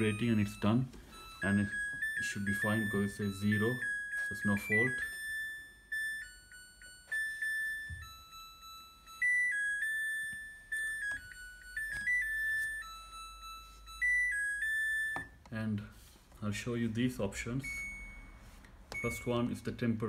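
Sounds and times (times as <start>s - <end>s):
washing machine beeping melody: 0.0s - 20.0s.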